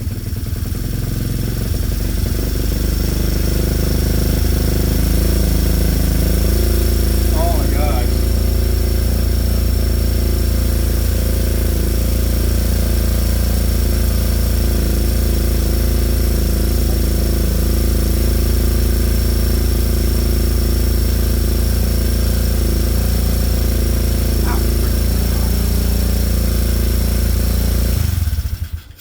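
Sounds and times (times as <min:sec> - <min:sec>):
motorbike engine running: 0:00.0 - 0:29.0.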